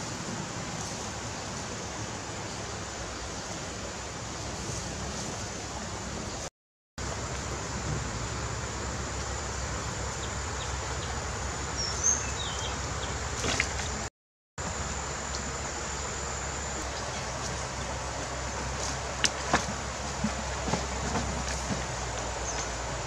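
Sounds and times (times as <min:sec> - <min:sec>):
forest ambience hiss: 0:00.0 - 0:23.0.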